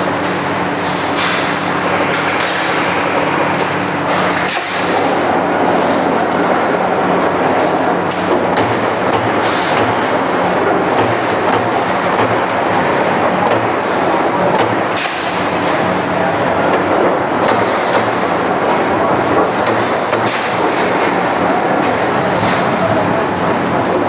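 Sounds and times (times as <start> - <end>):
punching machine running: 0.0 - 24.0.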